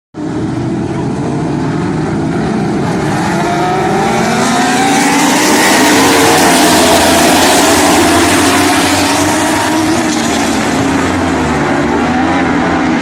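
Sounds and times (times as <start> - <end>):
race car engines running: 0.2 - 13.0.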